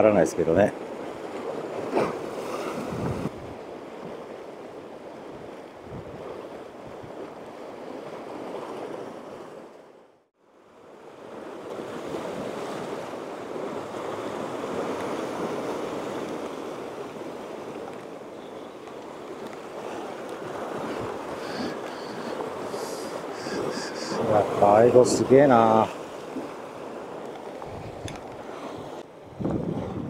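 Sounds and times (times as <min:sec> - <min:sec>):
sea waves washing against rocks: 0:00.0 - 0:09.7, 0:11.2 - 0:30.0.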